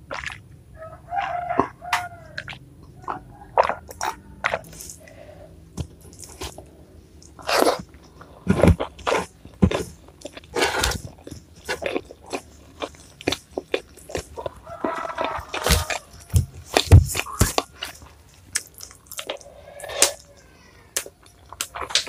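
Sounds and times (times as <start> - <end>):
chewing crunchy food: 0.0 - 22.0.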